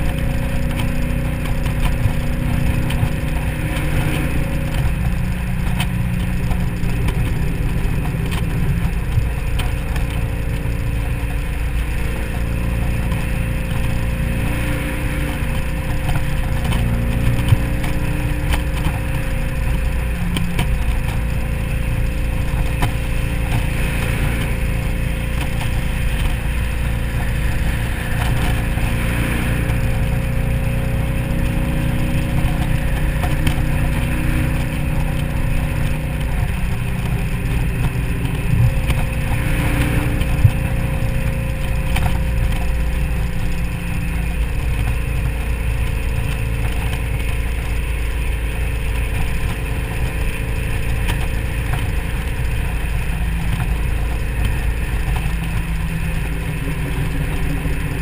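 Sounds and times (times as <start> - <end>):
car engine cruising: 0.0 - 58.0
rushing wind: 0.0 - 58.0.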